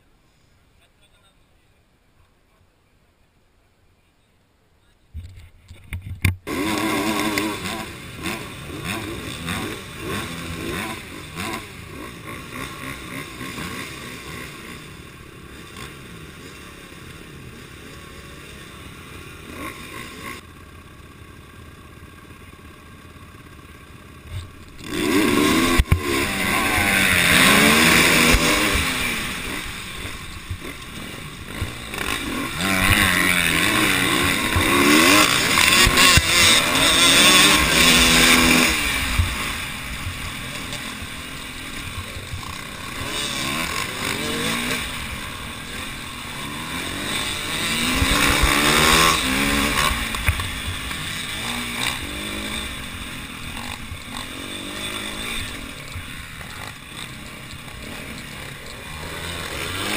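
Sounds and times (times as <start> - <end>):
motorcycle engines revving: 5.8 - 59.9.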